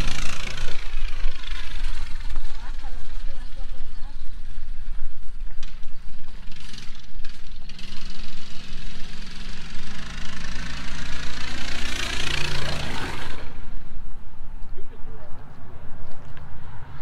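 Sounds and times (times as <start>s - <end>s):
small engine running: 0.0s - 13.8s.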